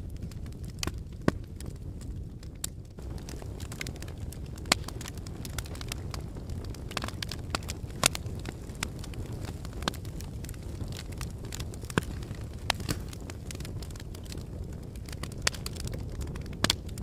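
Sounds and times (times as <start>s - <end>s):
lava crackling and snapping: 0.0s - 17.0s.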